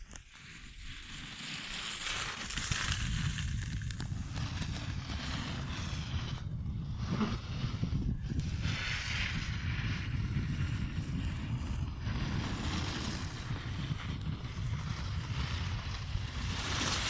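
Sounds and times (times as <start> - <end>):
skis sliding on snow: 0.0 - 17.0
wind buffeting microphone: 2.5 - 17.0.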